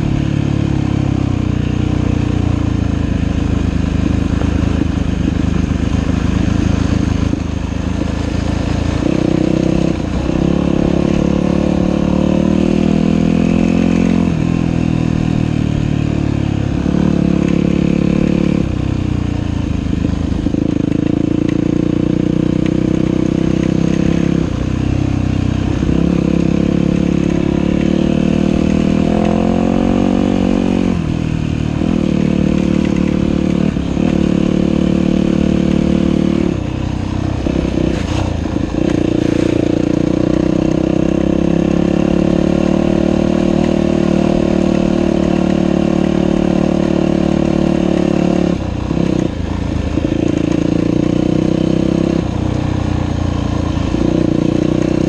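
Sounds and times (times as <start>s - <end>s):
dirt bike engine revving: 0.0s - 18.8s, 25.4s - 55.0s.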